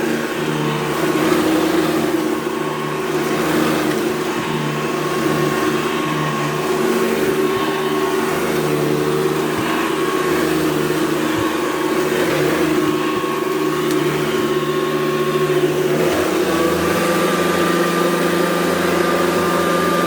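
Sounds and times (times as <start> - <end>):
vacuum cleaner motor hum: 0.0 - 20.0.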